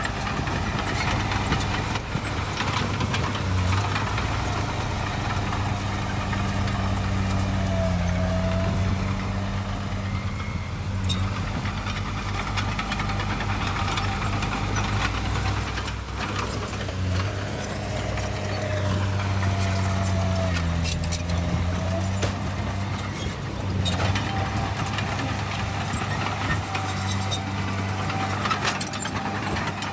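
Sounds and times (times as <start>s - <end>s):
diesel engine deep hum: 0.0s - 29.9s.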